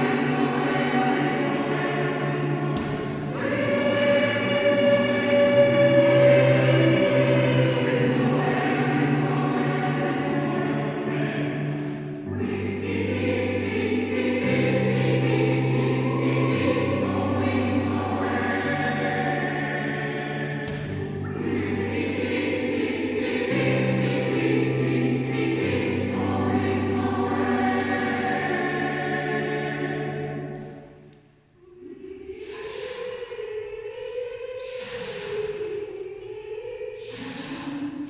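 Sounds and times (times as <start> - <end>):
choir singing in harmony: 0.0 - 38.0.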